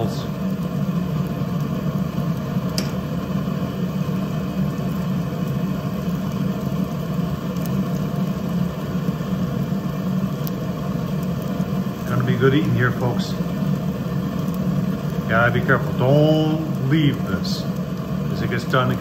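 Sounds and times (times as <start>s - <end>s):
gas burner flame rushing: 0.0s - 19.0s.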